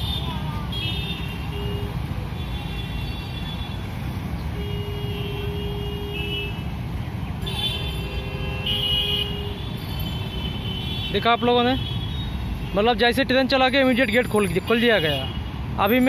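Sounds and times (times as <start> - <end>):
vehicle horns tooting: 0.0 - 6.8, 7.4 - 13.2, 14.1 - 15.6
motorbike and rickshaw engines rumbling: 0.0 - 16.0.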